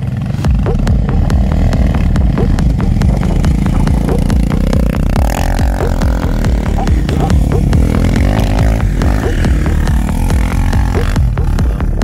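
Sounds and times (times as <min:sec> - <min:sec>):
fast beat background music: 0:00.0 - 0:12.0
quad engine running: 0:00.0 - 0:12.0.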